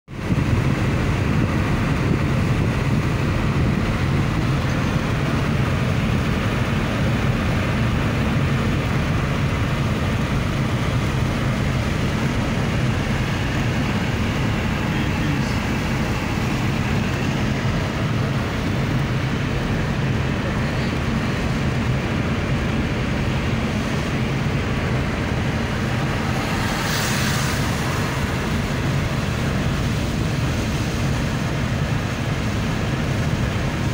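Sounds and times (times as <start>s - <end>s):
tyres and engine rumble: 0.1s - 33.9s
tyres hissing on wet road: 0.1s - 33.9s.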